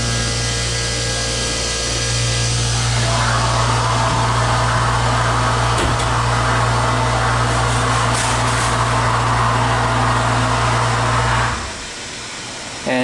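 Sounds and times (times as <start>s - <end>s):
rushing noise of moving elevator car: 0.0s - 12.5s
deep mains drone: 0.0s - 13.0s
elevator machinery humming: 0.0s - 13.0s.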